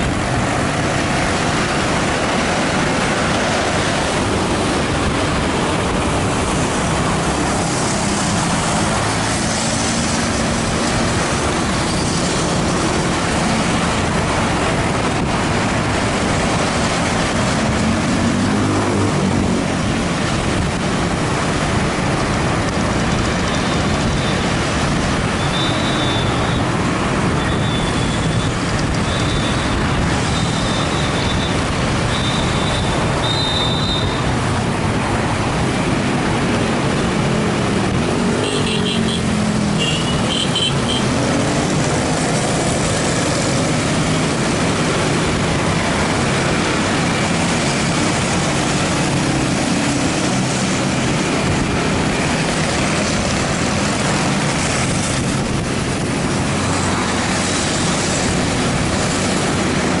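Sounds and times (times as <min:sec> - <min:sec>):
road and wind noise: 0:00.0 - 1:00.0.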